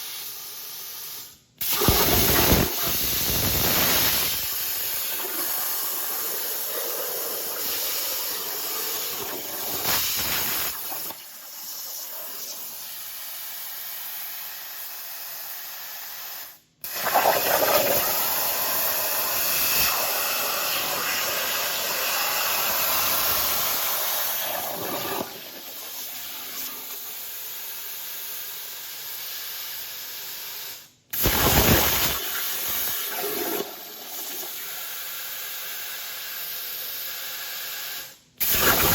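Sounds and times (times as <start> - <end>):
plasma cutter hissing: 0.0 - 28.5, 29.2 - 35.1, 37.9 - 38.9.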